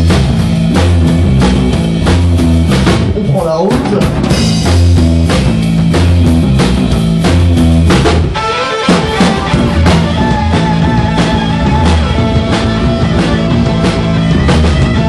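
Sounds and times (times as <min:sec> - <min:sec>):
drum kit: 0:00.0 - 0:15.0
electric bass guitar: 0:00.0 - 0:15.0
rock band playing: 0:00.0 - 0:15.0.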